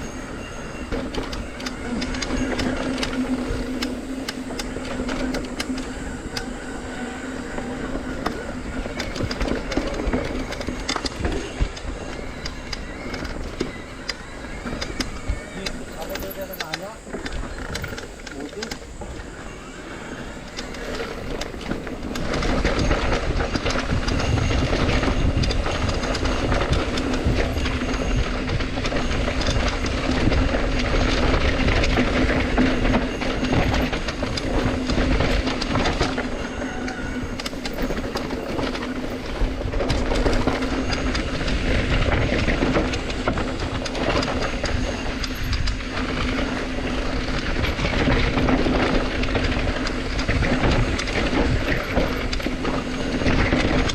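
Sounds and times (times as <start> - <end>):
bike rattling on rough trail: 0.0 - 53.9
wind buffeting microphone: 0.0 - 53.9.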